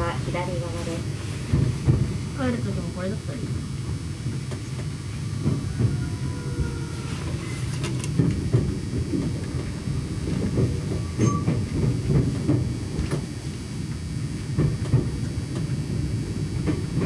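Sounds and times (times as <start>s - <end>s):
train carriage rumble with knocks: 0.0s - 17.0s.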